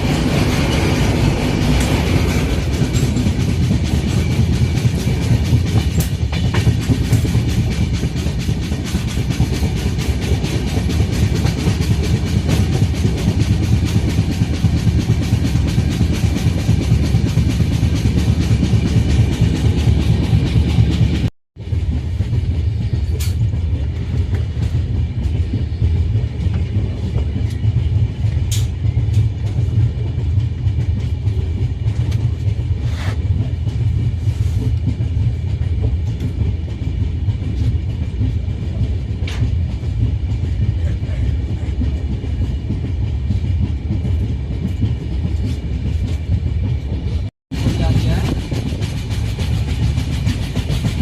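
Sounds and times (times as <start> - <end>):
train rumbling: 0.0 - 51.0.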